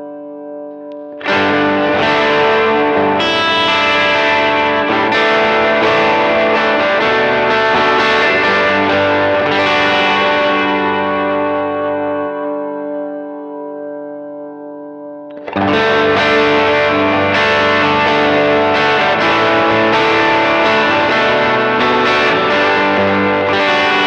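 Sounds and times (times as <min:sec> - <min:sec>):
overdriven electric guitar chords: 0:00.0 - 0:24.0.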